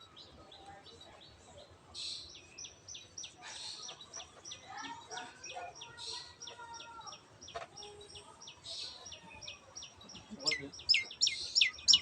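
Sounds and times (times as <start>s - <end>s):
faint low bird calls: 2.0s - 12.0s.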